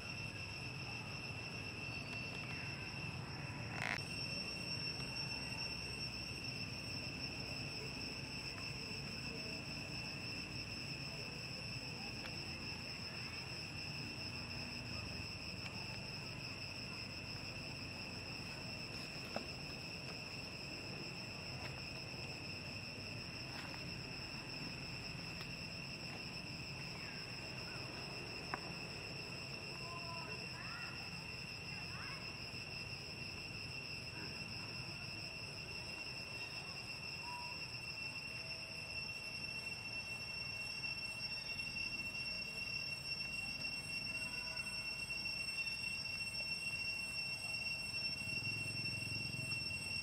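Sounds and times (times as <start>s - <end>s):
insects droning in chorus: 0.0s - 50.0s.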